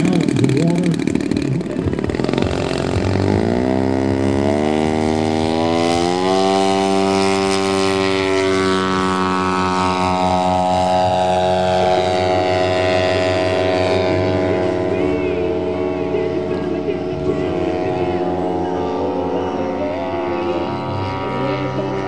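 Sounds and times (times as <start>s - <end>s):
model airplane engine: 0.0s - 22.0s.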